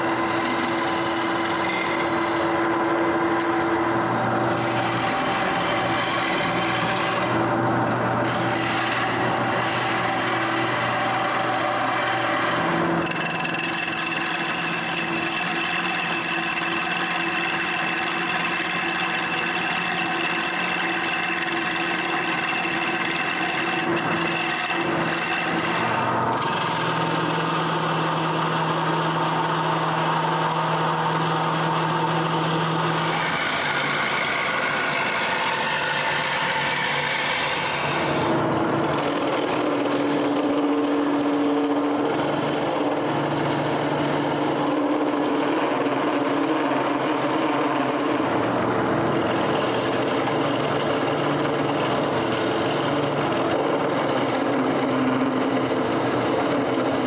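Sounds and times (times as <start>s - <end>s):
lathe motor hum: 0.0s - 57.0s
turning tool cutting wood: 0.0s - 57.0s.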